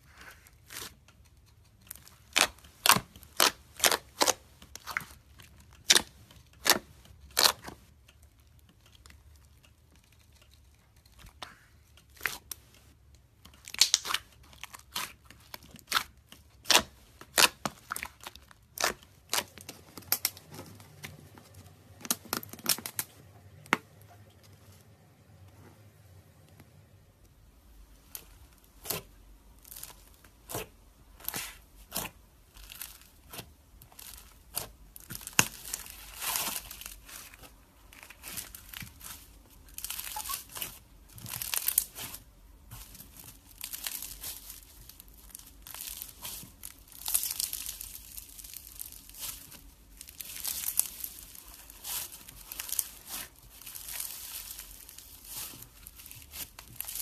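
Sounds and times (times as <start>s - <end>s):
slime crackling and crinkling: 0.0s - 24.9s, 27.2s - 57.0s.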